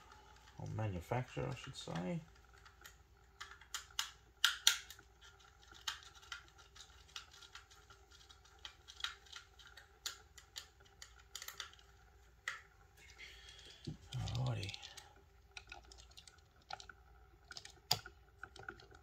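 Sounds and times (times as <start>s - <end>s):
faint motor hum: 0.0s - 19.0s.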